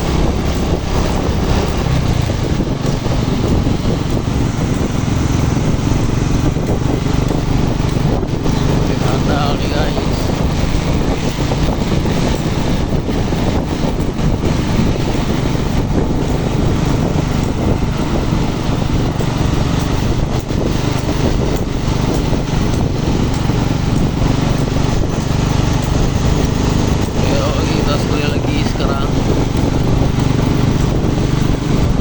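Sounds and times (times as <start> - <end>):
road noise: 0.0 - 32.0
truck engine under load: 0.0 - 32.0
wind noise: 0.0 - 32.0.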